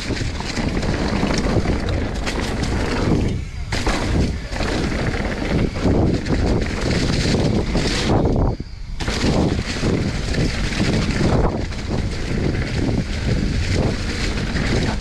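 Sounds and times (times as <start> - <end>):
bike tyres over dry leaves: 0.0 - 15.0
wind buffeting microphone: 0.0 - 15.0.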